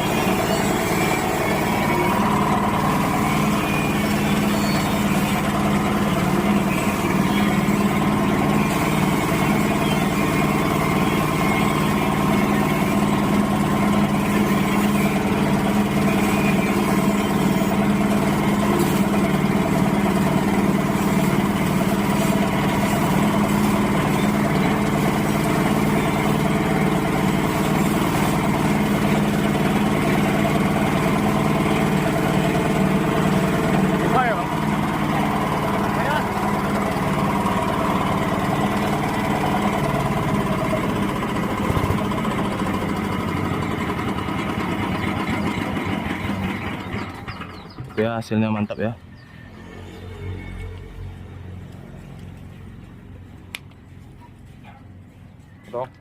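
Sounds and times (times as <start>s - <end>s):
machine droning: 0.0s - 55.5s.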